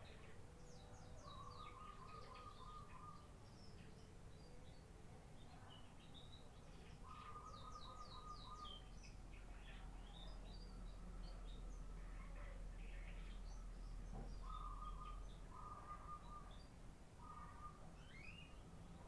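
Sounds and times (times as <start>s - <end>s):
canary singing: 0.0s - 3.8s, 6.3s - 10.8s, 11.5s - 19.0s.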